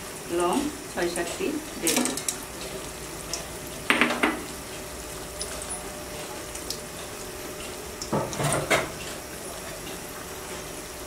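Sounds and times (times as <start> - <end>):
spices sizzling in hot fat: 0.0 - 11.0.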